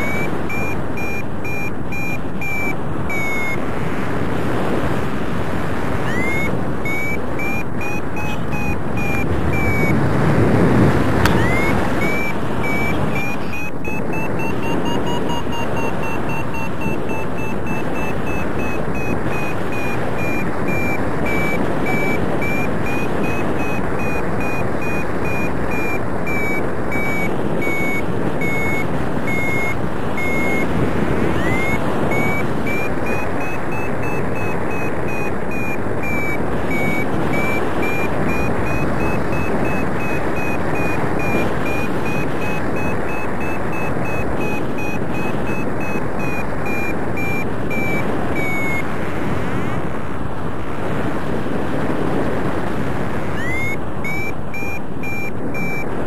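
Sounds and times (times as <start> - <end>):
variometer beeping: 0.0 - 3.6, 6.0 - 10.2, 11.1 - 48.9, 53.2 - 56.0
wind rush on microphone: 0.0 - 56.0.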